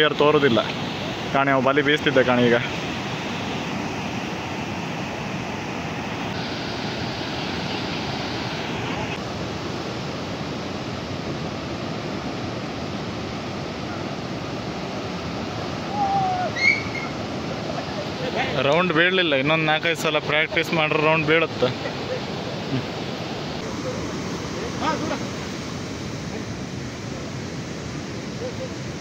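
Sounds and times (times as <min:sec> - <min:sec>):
rough sea surf: 0:00.0 - 0:29.0.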